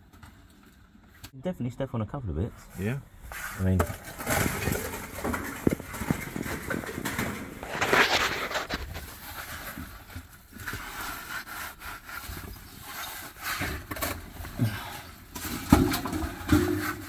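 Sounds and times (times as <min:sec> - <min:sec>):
pole scraping soil and rubble: 0:03.3 - 0:17.0.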